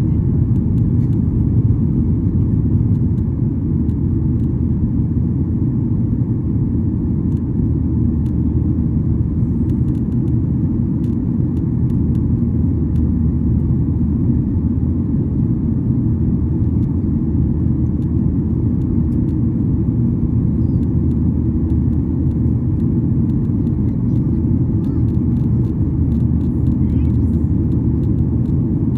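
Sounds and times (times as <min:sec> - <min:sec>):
jet cabin low rumble: 0:00.0 - 0:28.9.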